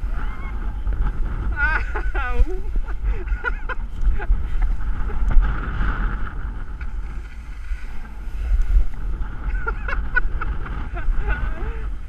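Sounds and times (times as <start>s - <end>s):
snow scraping under sliding person: 0.0s - 12.0s
wind buffeting microphone: 0.0s - 12.0s.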